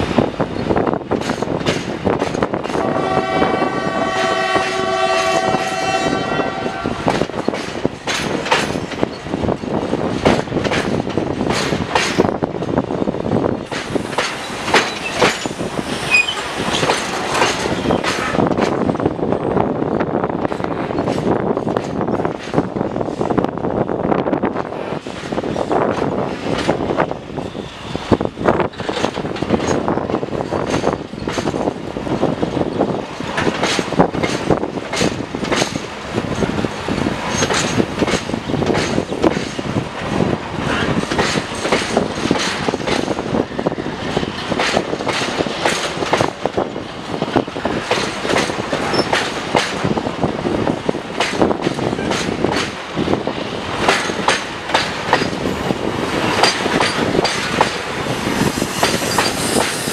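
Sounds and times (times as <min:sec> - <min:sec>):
diesel locomotive engine: 0:00.0 - 0:59.9
train rumble: 0:00.0 - 0:59.9
train wheels clicking on rail joints: 0:00.0 - 0:59.9.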